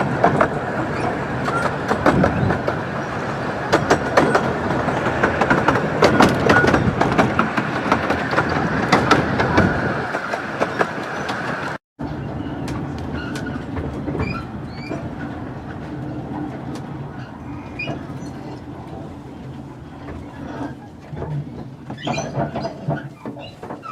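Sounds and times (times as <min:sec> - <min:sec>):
train rumbling: 0:00.0 - 0:23.9
train wheels clicking over rail joints: 0:00.0 - 0:23.9.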